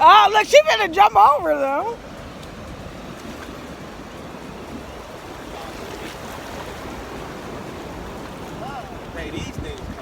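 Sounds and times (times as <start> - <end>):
ocean waves breaking on beach: 0.0 - 10.0.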